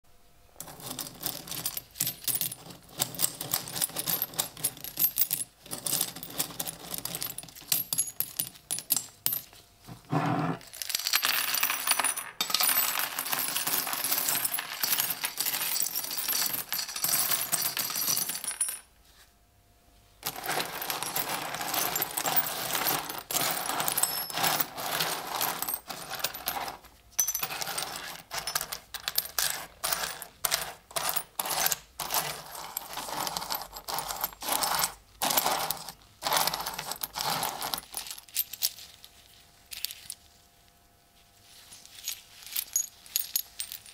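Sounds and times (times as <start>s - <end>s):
coins poured onto wooden board: 0.6s - 9.4s, 10.1s - 18.9s, 20.2s - 38.7s, 42.0s - 43.9s
metal coins clinking: 0.6s - 9.6s, 10.2s - 18.9s, 20.2s - 38.8s, 41.9s - 43.9s
coins sliding as hand stirs: 0.6s - 18.8s, 20.2s - 38.8s, 41.9s - 43.9s.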